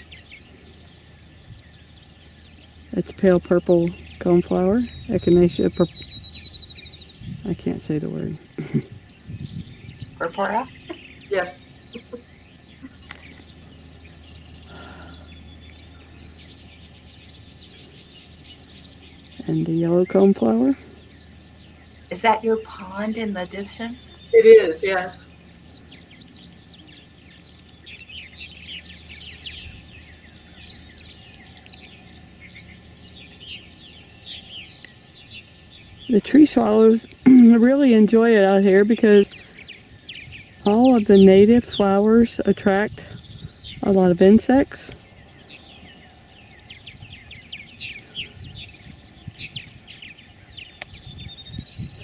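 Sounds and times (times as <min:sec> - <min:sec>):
low background rumble: 0:00.0 - 0:52.0
swallows chirping and twittering: 0:00.0 - 0:52.0.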